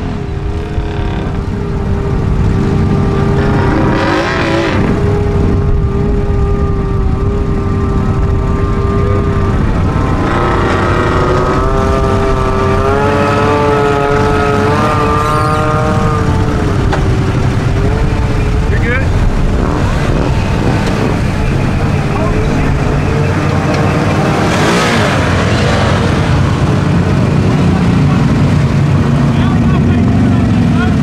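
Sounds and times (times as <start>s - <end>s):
engines at high revs: 0.0s - 31.0s.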